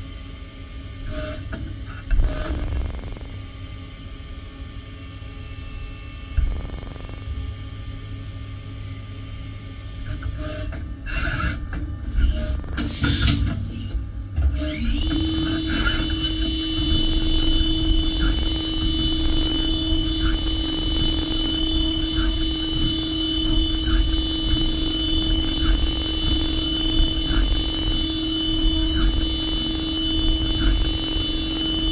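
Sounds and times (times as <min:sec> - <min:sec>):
low machine rumble: 0:00.0 - 0:31.9
spindle whine: 0:01.1 - 0:31.9.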